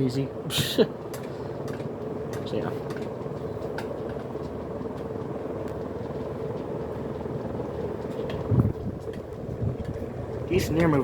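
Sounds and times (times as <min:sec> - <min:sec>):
fan blades rushing air: 0:00.0 - 0:11.0
fan motor hum: 0:00.0 - 0:11.0.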